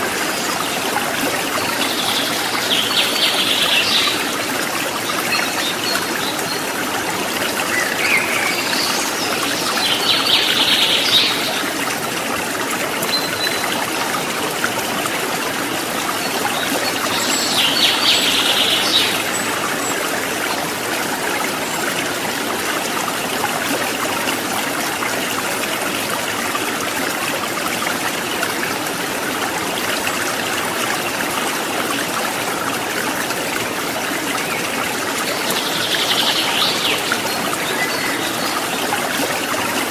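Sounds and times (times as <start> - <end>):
water babbling over rocks: 0.0 - 39.9.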